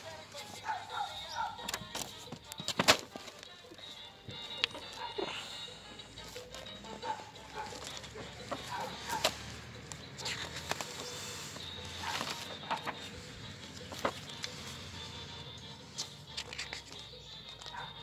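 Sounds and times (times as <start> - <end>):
paper and plastic crinkling: 0.0 - 5.4, 6.2 - 15.0, 15.8 - 18.0.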